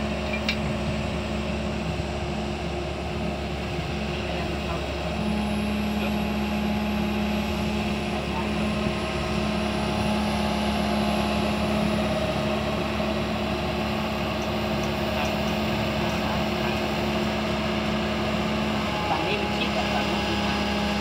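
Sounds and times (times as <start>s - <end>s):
excavator diesel engine droning: 0.0s - 21.0s.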